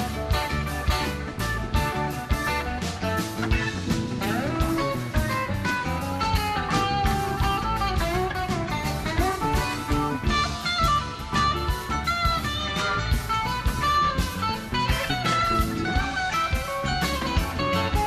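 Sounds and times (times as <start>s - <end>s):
bass guitar: 0.0s - 18.0s
drum kits: 0.0s - 18.0s
electric lead guitar solo: 0.0s - 18.0s
keyboards: 0.0s - 18.0s.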